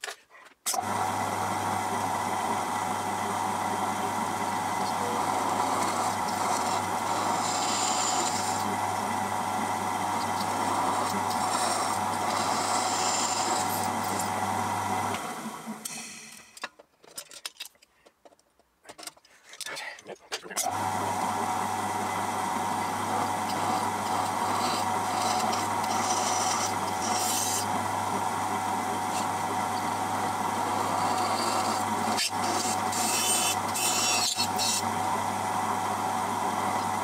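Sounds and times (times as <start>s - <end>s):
pillar drill motor humming: 0.7s - 16.6s, 20.6s - 37.0s
drill bit cutting metal: 1.6s - 15.1s, 20.6s - 37.0s.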